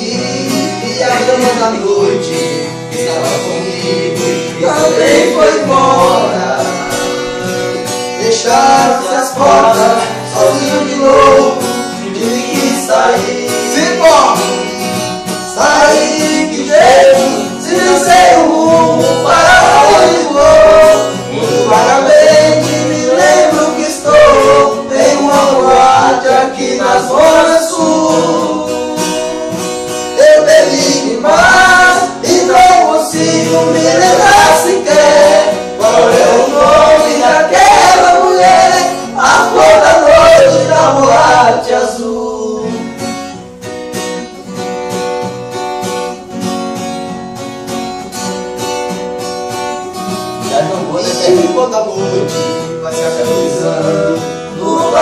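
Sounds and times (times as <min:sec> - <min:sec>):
man singing: 0:00.0 - 0:43.0, 0:50.4 - 0:55.0
acoustic guitar: 0:00.0 - 0:55.0.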